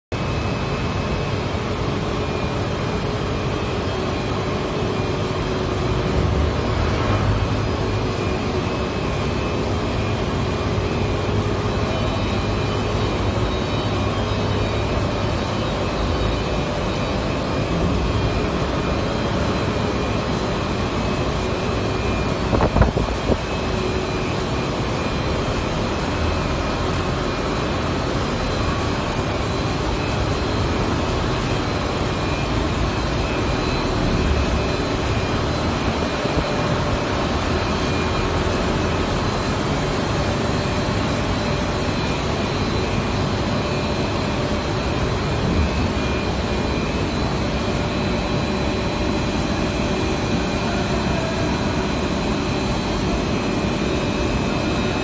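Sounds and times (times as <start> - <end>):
machine mechanical drone: 0.2 - 55.0.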